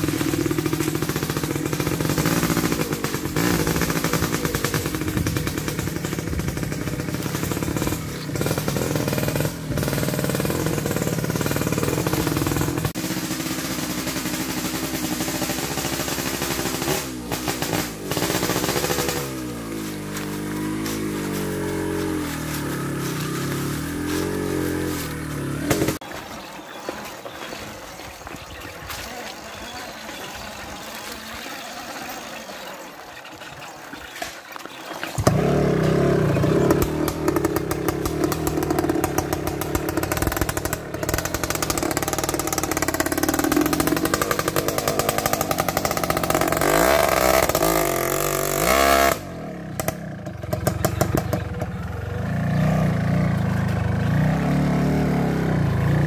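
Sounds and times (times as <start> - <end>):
dirt motorcycle engine revving: 0.0 - 32.7, 35.0 - 56.0.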